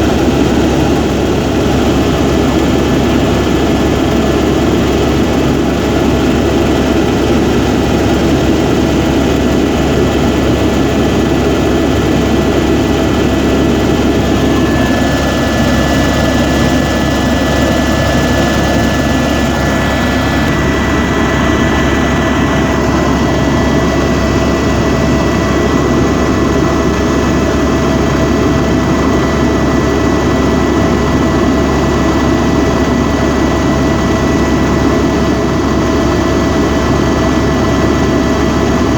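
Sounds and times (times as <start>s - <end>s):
helicopter turbine and rotor drone: 0.0s - 38.9s.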